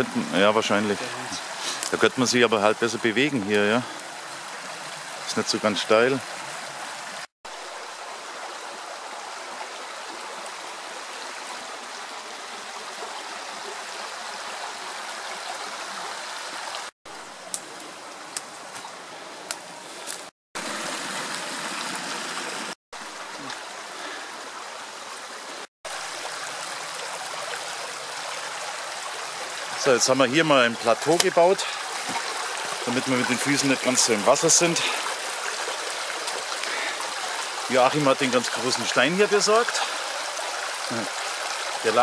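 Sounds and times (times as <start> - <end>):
creek water rushing and gurgling: 0.0 - 42.0.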